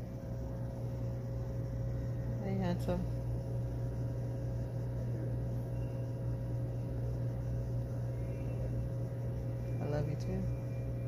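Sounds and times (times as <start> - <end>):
faint high steady tone: 0.0 - 11.0
steady low hum: 0.0 - 11.0.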